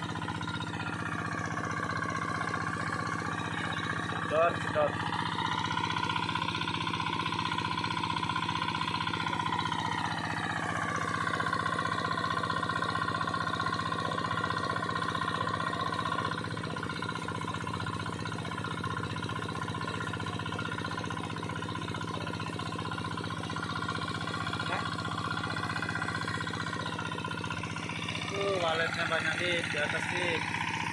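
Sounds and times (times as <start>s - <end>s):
suction pump engine running: 0.0s - 30.9s.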